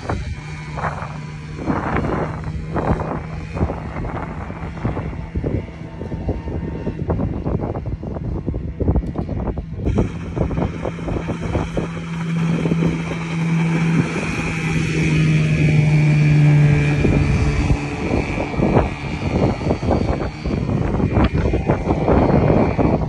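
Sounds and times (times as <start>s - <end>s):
outboard motor hum: 0.0s - 23.0s
wind buffeting microphone: 0.0s - 23.0s.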